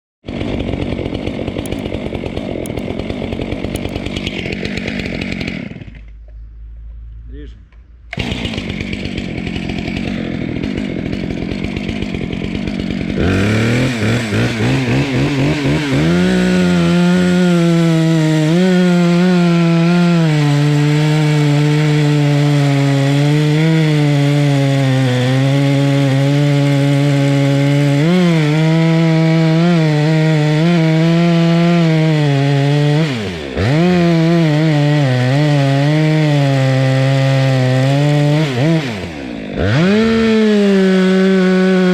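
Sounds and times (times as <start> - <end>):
chainsaw revving and cutting wood: 0.2 - 6.2, 8.1 - 41.9.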